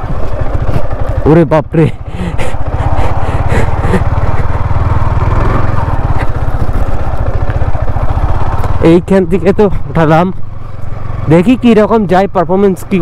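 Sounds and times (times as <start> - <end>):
motorcycle engine under load: 0.0 - 13.0.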